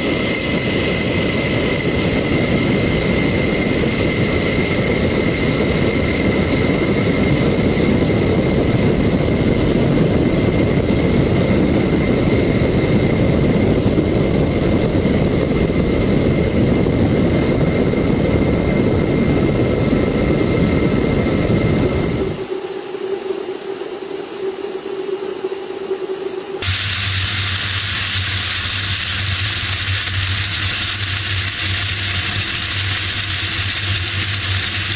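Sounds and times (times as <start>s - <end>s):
aircraft engine and airflow noise: 0.0s - 34.9s
constant high whine: 0.0s - 34.9s.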